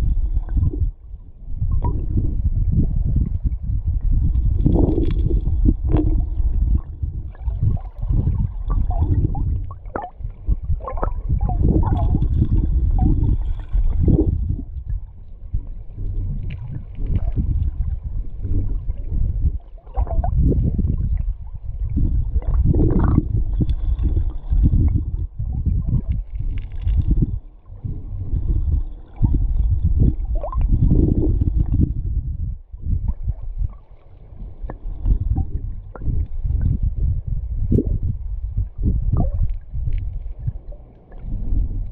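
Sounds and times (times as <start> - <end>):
muffled underwater river current: 0.0 - 41.9.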